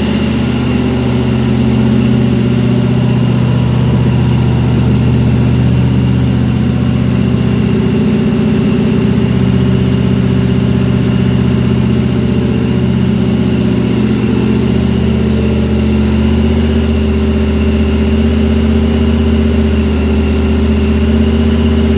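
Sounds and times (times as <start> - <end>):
car engine idling: 0.0 - 21.9.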